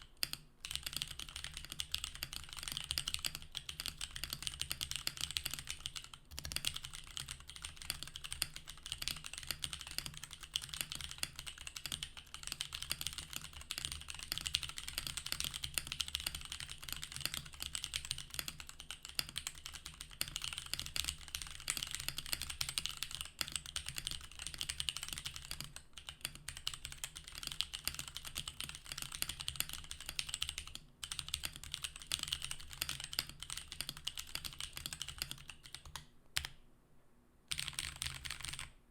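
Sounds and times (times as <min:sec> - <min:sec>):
fast typing on mechanical keyboard: 0:00.1 - 0:36.6, 0:37.5 - 0:38.8.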